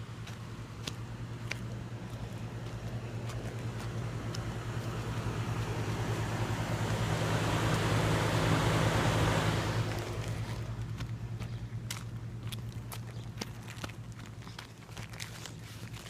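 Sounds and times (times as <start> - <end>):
air conditioner unit humming: 0.0 - 14.9.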